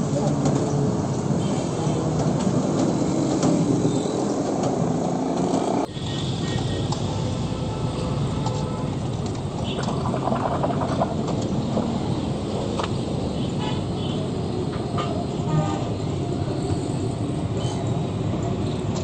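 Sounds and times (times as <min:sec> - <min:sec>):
traffic running: 0:00.0 - 0:19.0.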